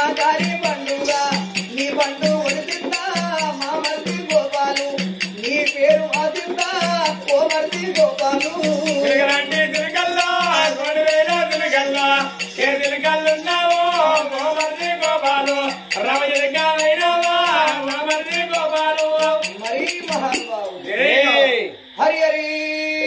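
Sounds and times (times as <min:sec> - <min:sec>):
rhythmic metallic jingling: 0:00.0 - 0:22.0
voices singing folk song: 0:00.0 - 0:23.0.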